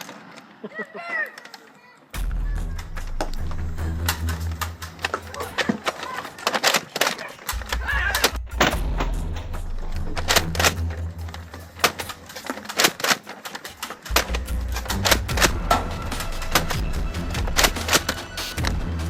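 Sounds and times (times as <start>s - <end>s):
foam dart blasters clacking: 2.2s - 19.0s.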